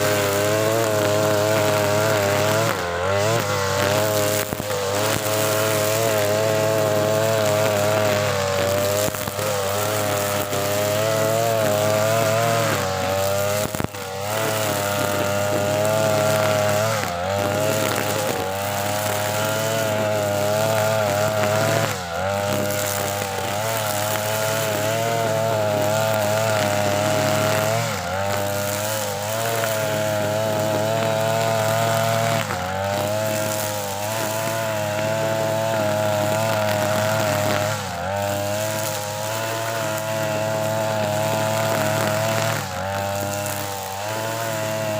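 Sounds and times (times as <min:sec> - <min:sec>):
brush cutter engine at full throttle: 0:00.0 - 0:44.9.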